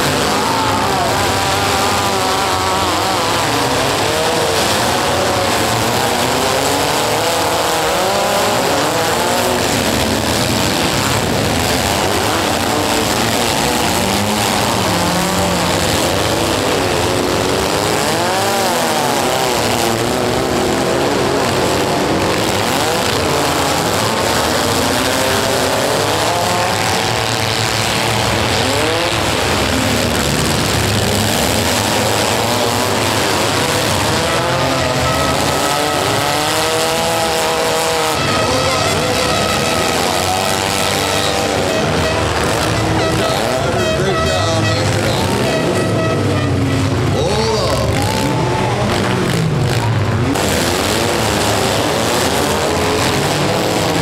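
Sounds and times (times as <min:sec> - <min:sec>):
many car engines revving: 0:00.0 - 0:54.0.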